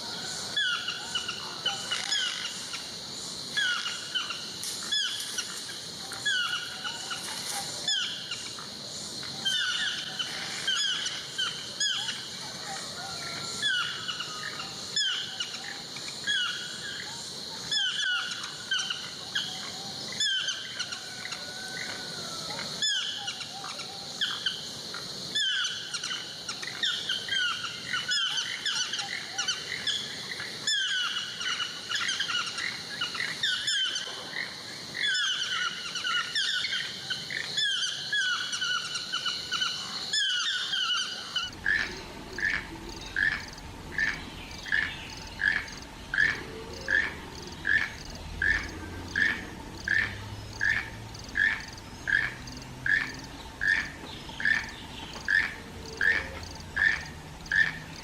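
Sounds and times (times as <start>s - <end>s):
birds calling: 0.0s - 58.0s
high insect hum: 0.0s - 58.0s.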